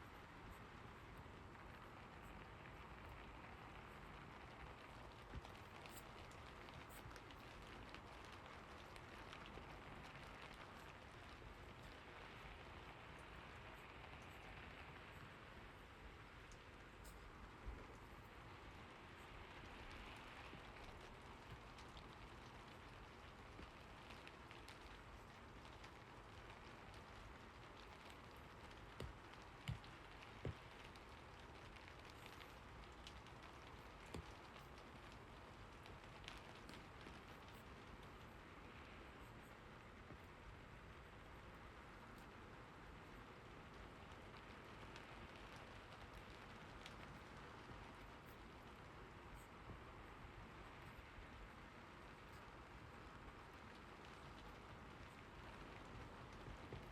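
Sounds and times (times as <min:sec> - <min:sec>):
faint steady rain: 0:00.0 - 0:56.9.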